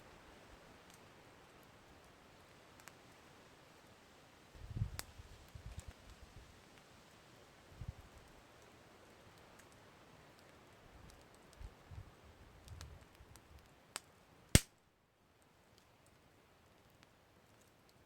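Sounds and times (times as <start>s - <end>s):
campfire crackling: 0.1s - 18.0s.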